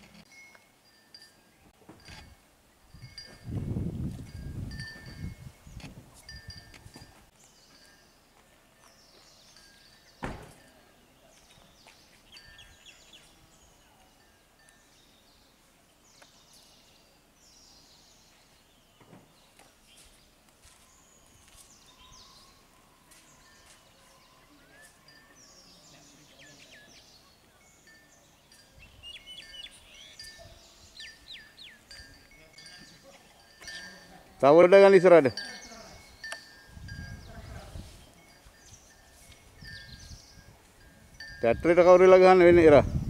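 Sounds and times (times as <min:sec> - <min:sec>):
small birds chirping: 0:04.8 - 0:34.4, 0:35.4 - 0:42.2.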